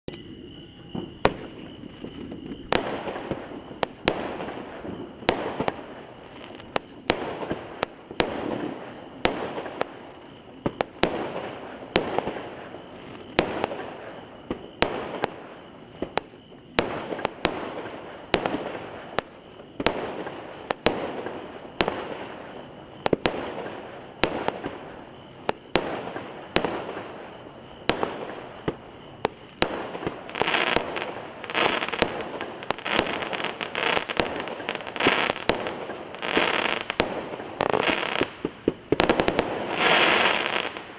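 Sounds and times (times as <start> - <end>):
firework hiss: 1.0 - 40.9.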